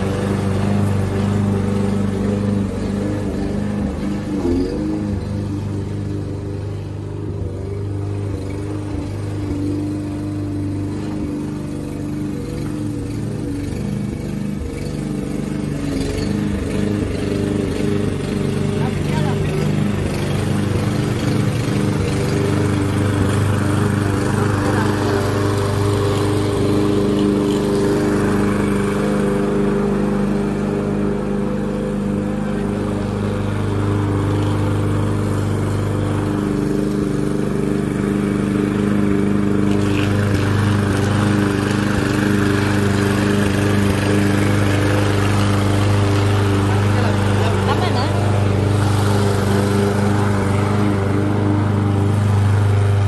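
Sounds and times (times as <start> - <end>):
push lawn mower running: 0.0 - 53.0.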